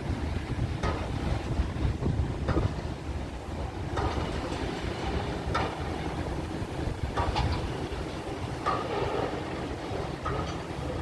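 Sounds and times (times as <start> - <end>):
freight train rumbling on bridge: 0.0 - 11.0.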